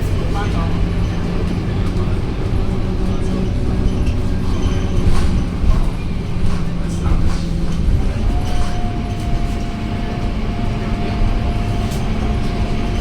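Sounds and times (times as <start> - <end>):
bus body rattling and knocking: 0.0 - 13.0
diesel bus engine droning: 0.0 - 13.0.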